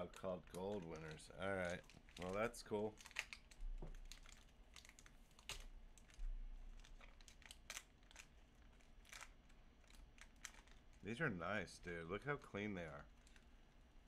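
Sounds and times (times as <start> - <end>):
paper crinkle: 0.0 - 11.2, 12.2 - 13.8.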